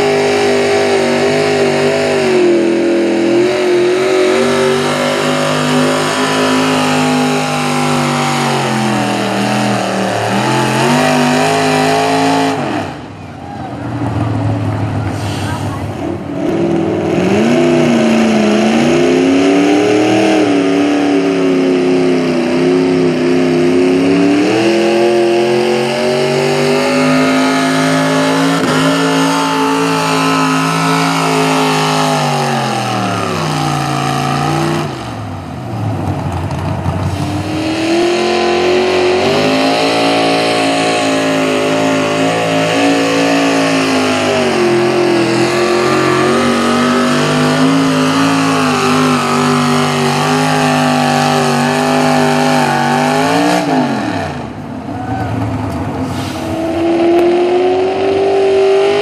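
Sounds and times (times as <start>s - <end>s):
tractor engine at full throttle: 0.0s - 59.0s.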